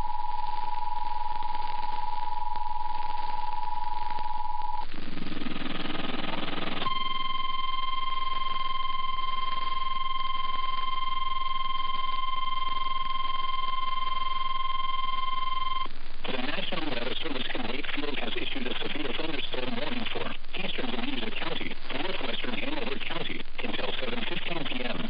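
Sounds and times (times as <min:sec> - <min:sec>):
constant radio hiss: 0:00.0 - 0:25.0
noisy static: 0:00.0 - 0:25.0.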